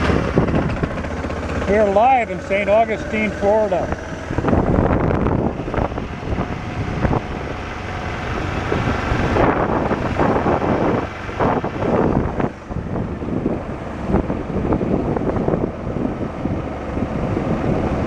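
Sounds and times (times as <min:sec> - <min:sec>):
wind buffeting microphone: 0:00.0 - 0:02.2, 0:02.8 - 0:18.0
motorcycle engine: 0:00.0 - 0:18.0.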